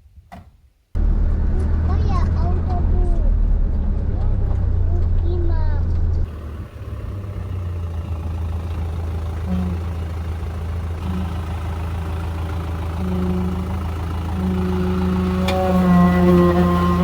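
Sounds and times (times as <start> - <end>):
diesel truck engine running: 1.0 - 17.0.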